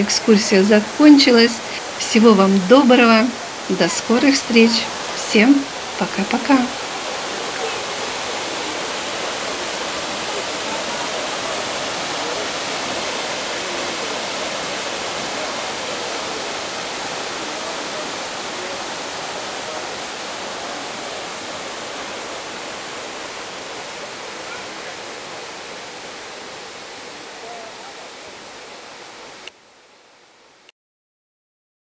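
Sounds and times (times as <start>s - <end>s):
water rushing down rock cascade: 0.0s - 29.5s.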